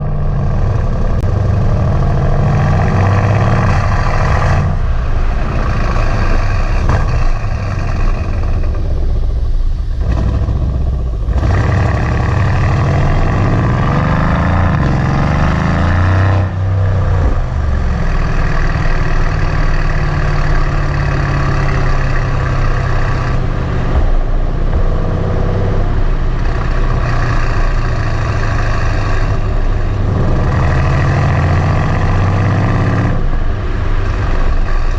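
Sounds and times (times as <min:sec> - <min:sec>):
loud car engine revving: 0:00.0 - 0:34.9.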